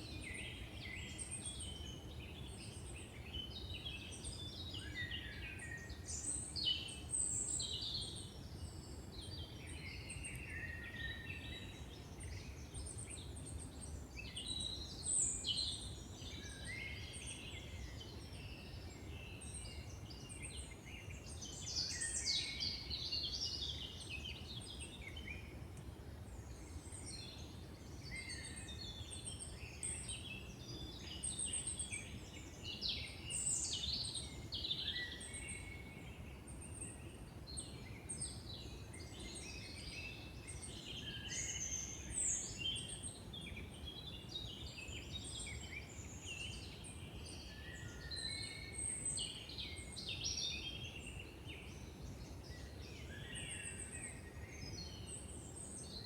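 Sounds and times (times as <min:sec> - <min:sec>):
songbirds singing and calling: 0:00.0 - 0:56.0.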